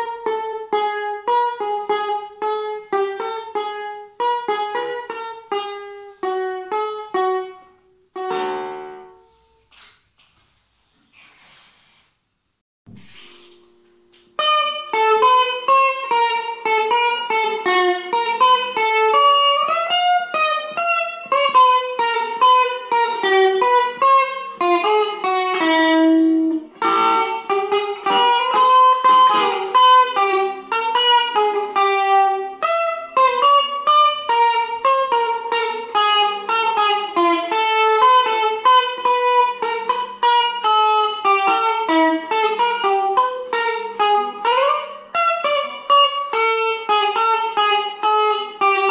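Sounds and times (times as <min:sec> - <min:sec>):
electric guitar melody: 0:00.0 - 0:09.9, 0:12.9 - 0:48.9.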